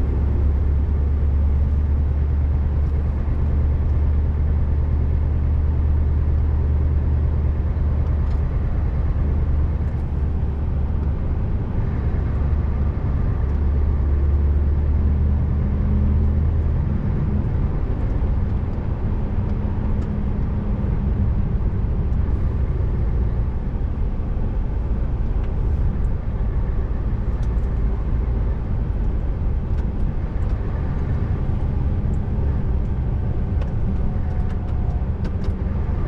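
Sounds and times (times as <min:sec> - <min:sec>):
tyre and road noise: 0:00.0 - 0:03.9, 0:08.0 - 0:36.0
truck diesel engine drone: 0:00.0 - 0:36.0.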